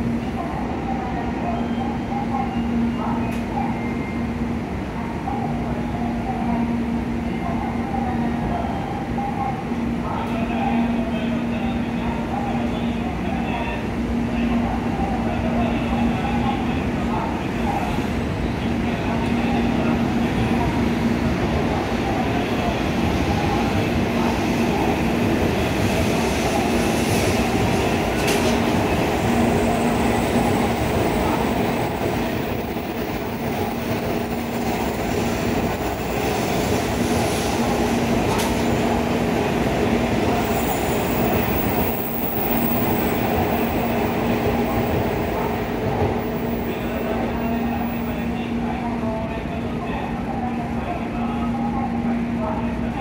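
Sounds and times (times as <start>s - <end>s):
stationary train mechanical hum: 0.0s - 53.0s.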